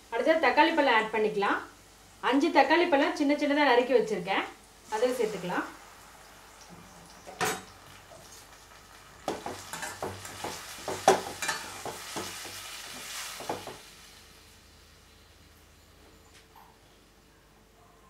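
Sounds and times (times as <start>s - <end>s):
vegetables sizzling: 0.0s - 15.3s.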